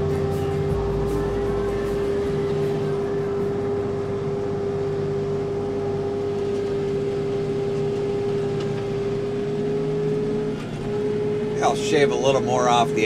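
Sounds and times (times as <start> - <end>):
constant whine: 0.0 - 13.0
tractor engine drone: 0.0 - 13.0.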